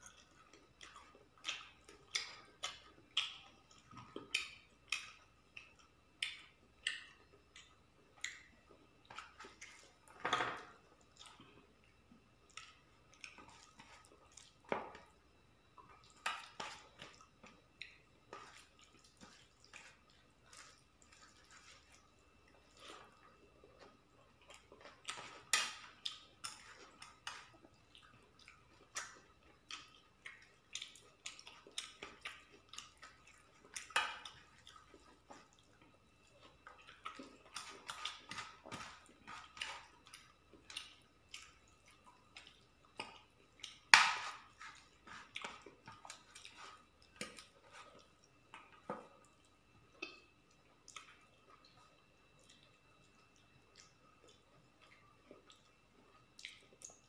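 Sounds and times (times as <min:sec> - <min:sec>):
wet chewing and smacking: 0:00.0 - 0:57.0.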